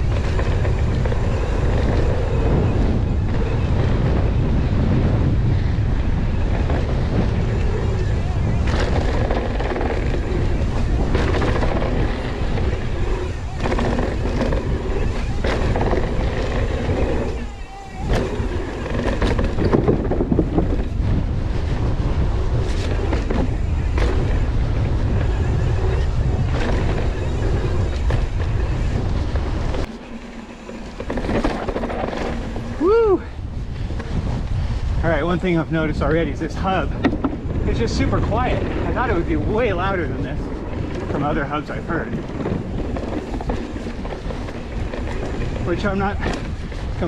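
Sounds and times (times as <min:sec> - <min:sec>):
bike rolling over dirt trail: 0:00.0 - 0:47.0
wind buffeting microphone: 0:00.0 - 0:47.0.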